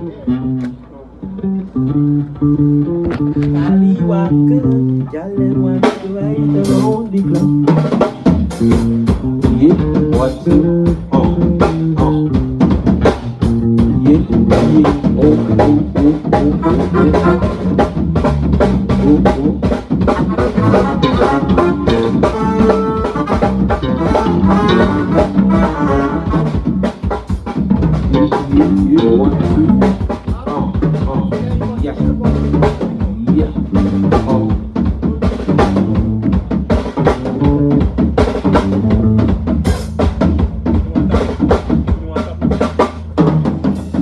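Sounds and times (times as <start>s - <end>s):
drum kit steady beat: 0.0s - 44.0s
instrumental band music: 0.0s - 44.0s.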